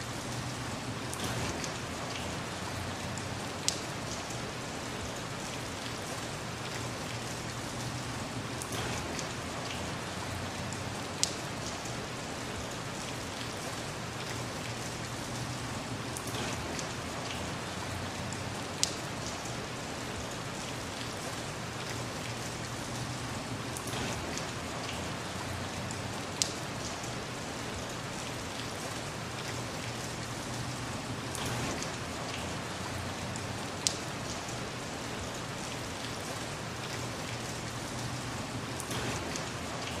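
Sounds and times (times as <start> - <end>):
rain falling steadily: 0.0 - 40.0.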